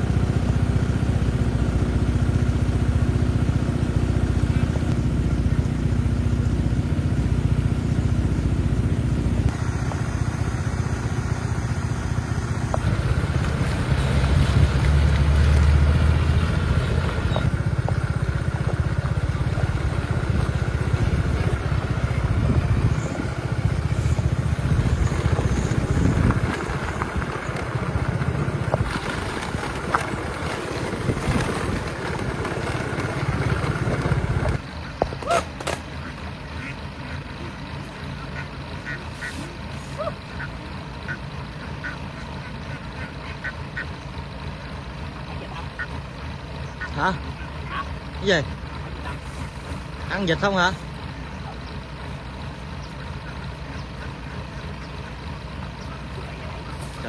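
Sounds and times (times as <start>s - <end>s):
vehicle engine running: 0.0s - 57.0s
wind or road noise: 0.0s - 57.0s.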